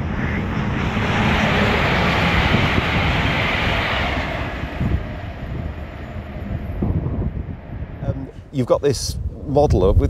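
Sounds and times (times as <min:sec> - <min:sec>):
train passing at speed: 0:00.0 - 0:09.0
wind buffeting microphone: 0:00.0 - 0:10.0.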